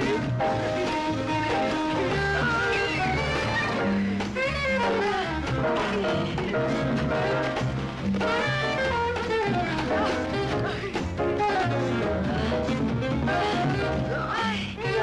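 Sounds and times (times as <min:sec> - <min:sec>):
jazz horns melody: 0:00.0 - 0:14.2
bass and drums: 0:00.0 - 0:15.0.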